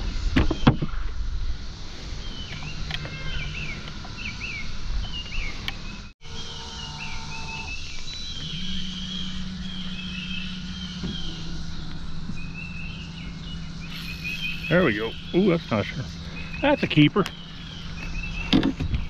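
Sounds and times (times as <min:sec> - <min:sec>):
low steady hum: 0:01.1 - 0:19.0
songbird chirping: 0:02.2 - 0:19.0.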